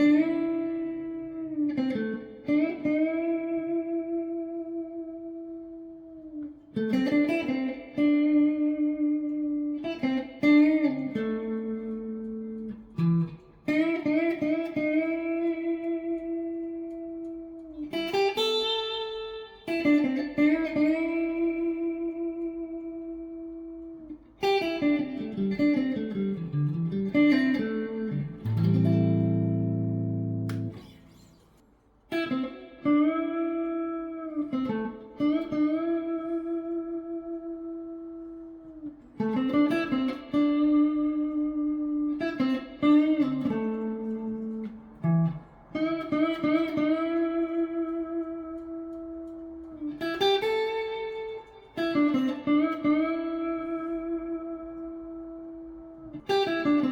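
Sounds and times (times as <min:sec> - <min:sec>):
clean electric guitar: 0:00.0 - 0:56.9.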